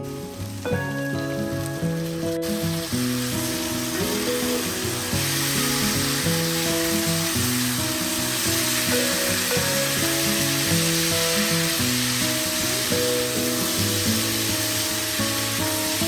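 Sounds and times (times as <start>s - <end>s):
background music: 0.0s - 15.1s
food sizzling: 0.0s - 16.0s.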